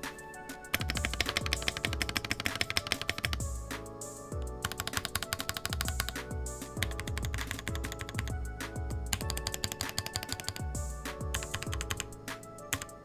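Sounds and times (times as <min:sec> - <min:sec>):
background music: 0:00.0 - 0:13.0
fast keyboard typing: 0:00.7 - 0:03.6, 0:04.4 - 0:08.5, 0:09.1 - 0:13.0.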